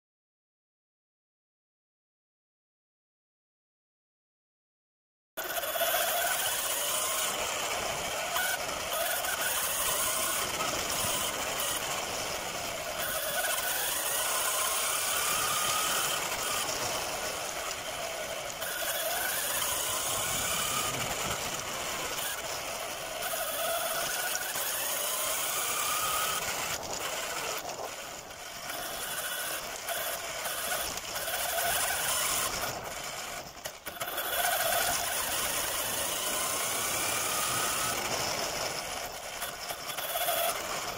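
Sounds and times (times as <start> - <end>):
model car motors whining: 5.4 - 40.9.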